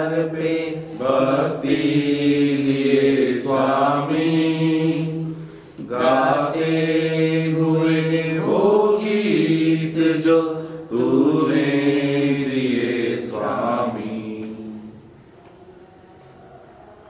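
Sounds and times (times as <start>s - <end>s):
hymn with long held notes: 0.0s - 17.0s.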